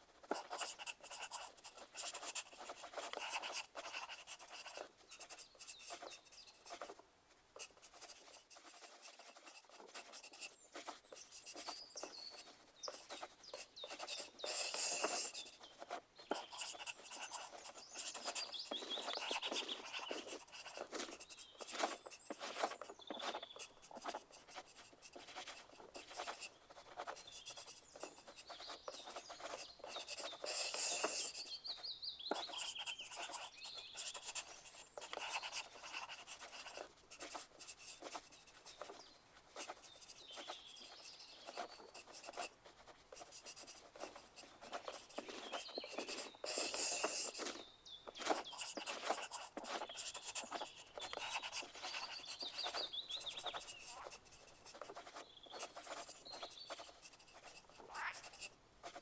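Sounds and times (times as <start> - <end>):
pencil writing on paper: 0.0 - 7.0, 7.6 - 59.0.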